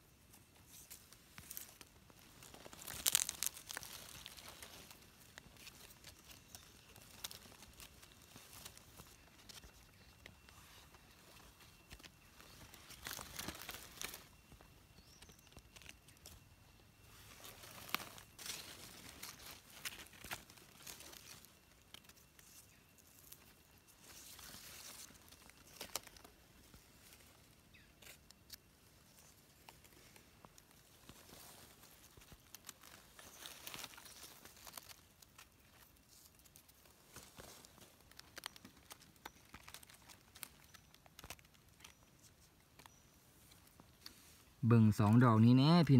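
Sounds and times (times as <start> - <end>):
dry leaves rustling: 0.3 - 44.6.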